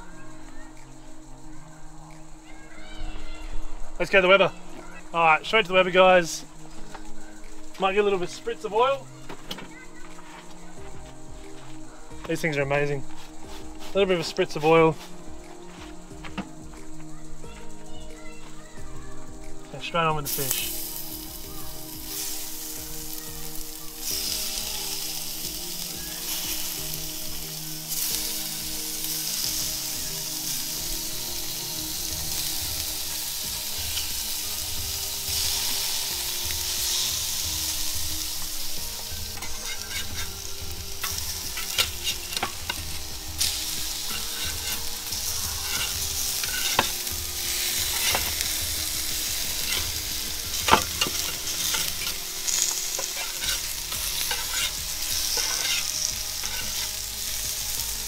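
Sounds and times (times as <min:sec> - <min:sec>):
fish sizzling on a grill: 0:00.0 - 0:58.0.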